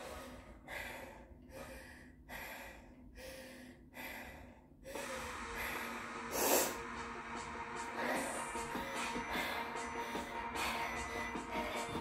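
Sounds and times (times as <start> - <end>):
woman breathing hard: 0.0 - 12.0.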